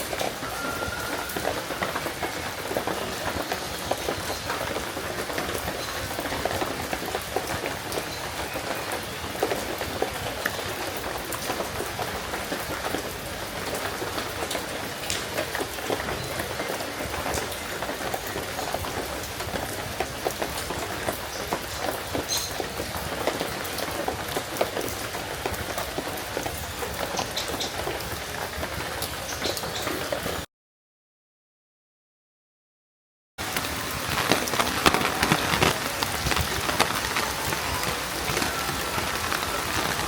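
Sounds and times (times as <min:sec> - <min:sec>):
raindrop hits: 0:00.0 - 0:30.5, 0:33.4 - 0:40.0
steady rain falling: 0:00.0 - 0:30.5, 0:33.4 - 0:40.0.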